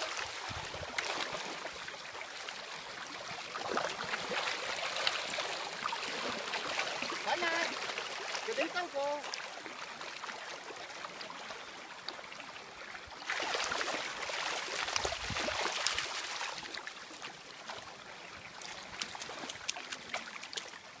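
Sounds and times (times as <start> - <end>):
floodwater rushing: 0.0 - 11.9, 13.0 - 21.0
small water splashes: 0.0 - 21.0.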